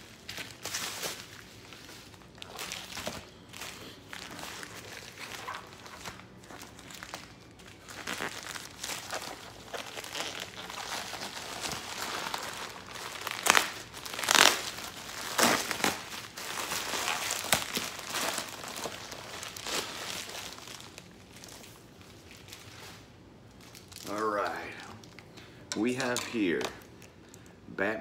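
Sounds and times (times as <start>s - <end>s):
plastic crackling and ripping: 0.0s - 25.3s
plastic wrapping crinkling: 0.0s - 27.5s.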